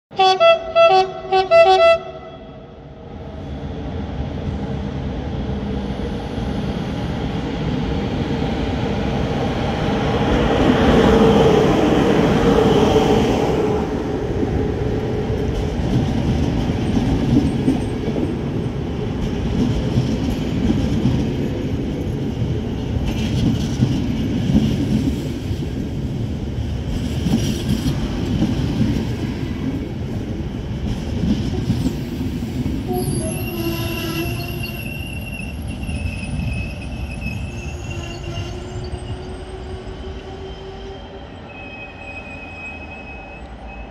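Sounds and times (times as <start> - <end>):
train rumble: 0.6 - 43.9.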